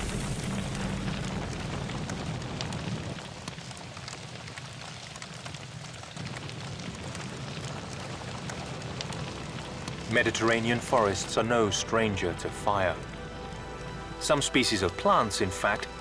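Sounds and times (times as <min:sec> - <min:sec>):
low rumble: 0:00.0 - 0:04.2, 0:06.2 - 0:16.0
fire hissing and crackling: 0:00.0 - 0:16.0.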